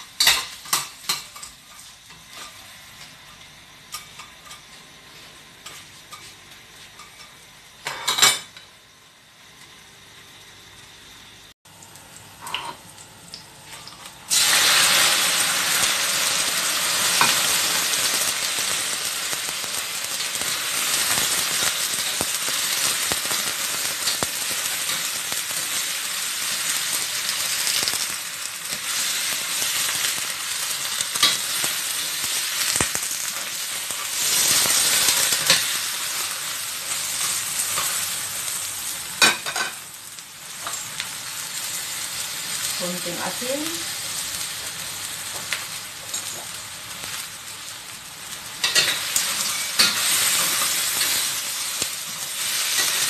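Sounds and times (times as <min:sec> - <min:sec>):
crabs sizzling in hot oil: 0:00.0 - 0:53.0.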